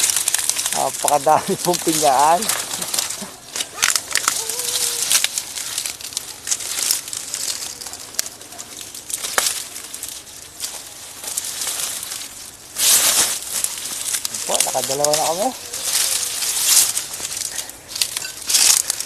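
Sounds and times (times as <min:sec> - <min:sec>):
stiff leaves rustling and crackling: 0:00.0 - 0:19.0.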